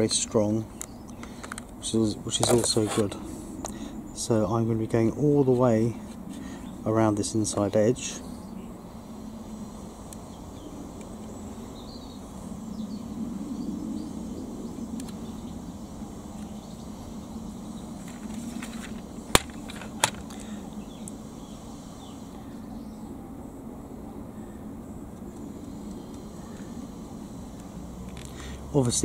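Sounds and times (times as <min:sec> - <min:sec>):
low background drone: 0:00.0 - 0:29.0.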